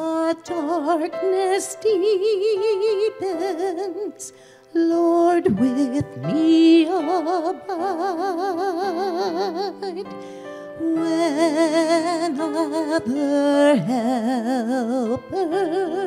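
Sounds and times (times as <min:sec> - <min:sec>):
woman singing with vibrato: 0:00.0 - 0:10.2, 0:10.8 - 0:16.0
sustained keyboard accompaniment: 0:00.0 - 0:16.0.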